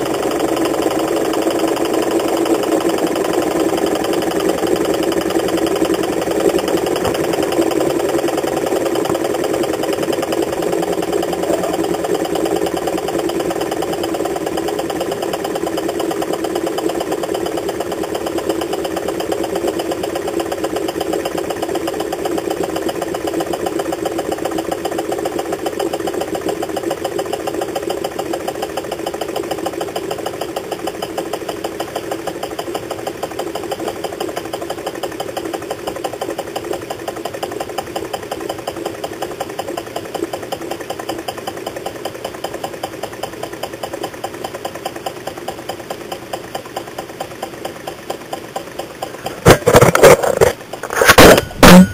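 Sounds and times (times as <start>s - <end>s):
stirling engine mechanical clatter: 0.0s - 51.9s.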